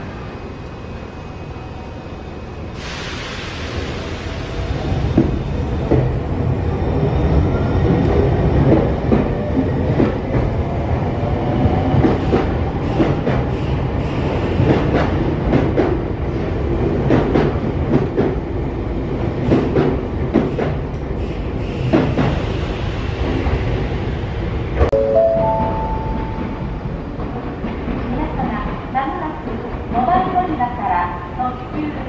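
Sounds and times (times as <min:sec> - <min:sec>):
train rumble: 0:02.7 - 0:32.0.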